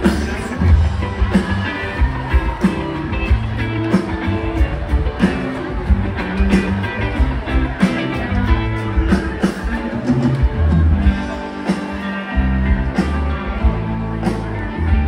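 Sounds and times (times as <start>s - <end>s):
bass guitar: 0.0s - 15.0s
electric guitar: 0.0s - 15.0s
steady drum beat: 0.0s - 15.0s.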